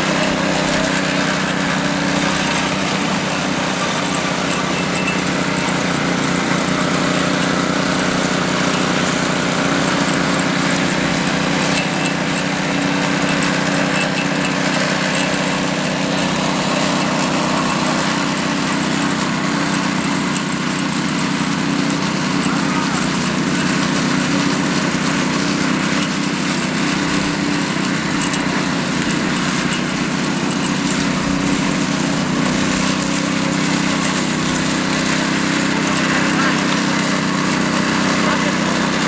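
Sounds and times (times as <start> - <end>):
power trowel engine droning: 0.0 - 39.0.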